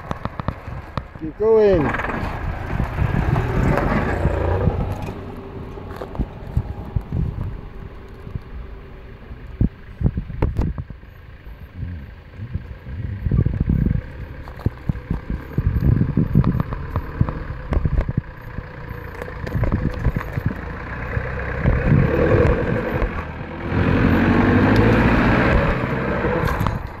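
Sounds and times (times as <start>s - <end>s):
engine working at low speed: 0.0s - 27.0s.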